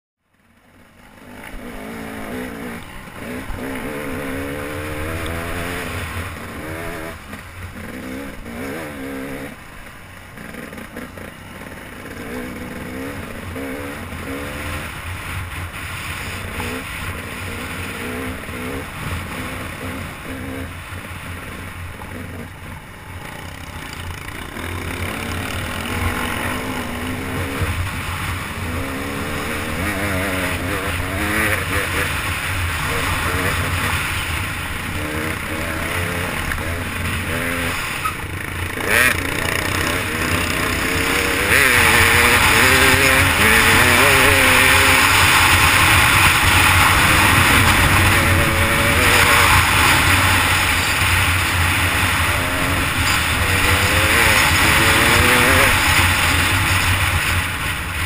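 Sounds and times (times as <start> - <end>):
wind and trail noise: 0.2 - 58.0
dirt bike engine revving: 0.6 - 58.0.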